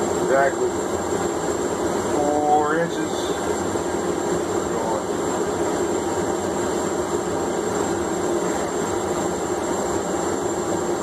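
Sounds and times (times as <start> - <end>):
forge running: 0.0 - 11.0.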